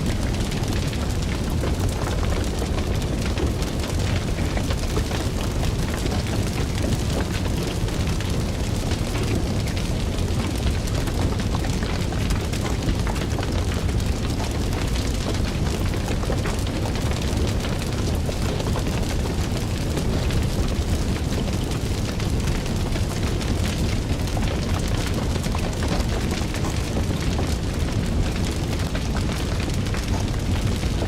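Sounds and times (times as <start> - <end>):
fire crackling: 0.0 - 31.0.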